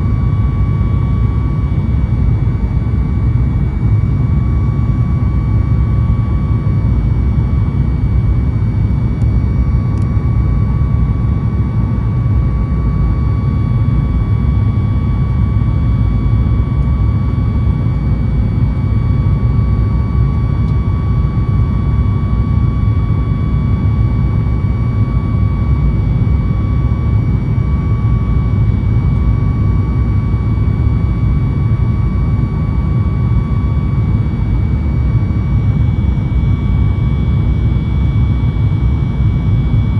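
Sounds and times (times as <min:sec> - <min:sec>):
aircraft cabin engine rumble: 0:00.0 - 0:39.9
steady engine whine: 0:00.0 - 0:39.9.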